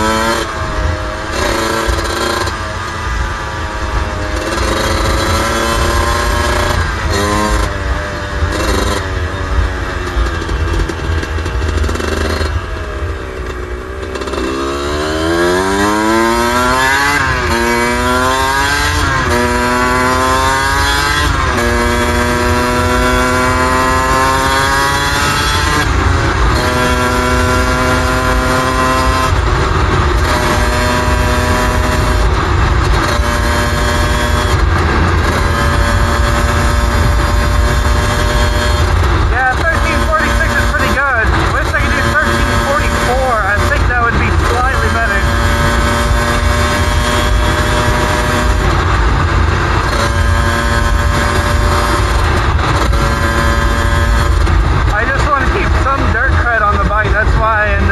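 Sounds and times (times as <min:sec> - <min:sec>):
dirt bike engine accelerating: 0:00.0 - 0:57.9
wind rumble: 0:00.0 - 0:57.9.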